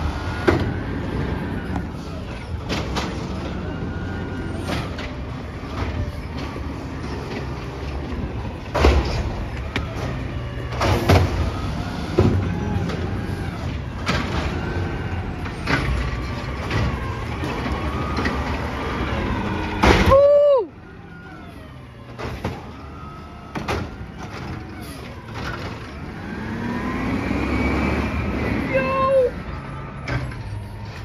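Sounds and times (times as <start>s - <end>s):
garbage truck engine rumbling: 0.0s - 31.0s.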